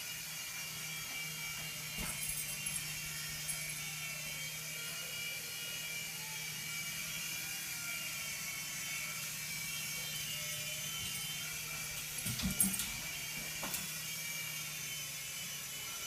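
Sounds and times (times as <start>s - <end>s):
toy helicopter rotor whirring: 0.0s - 16.0s.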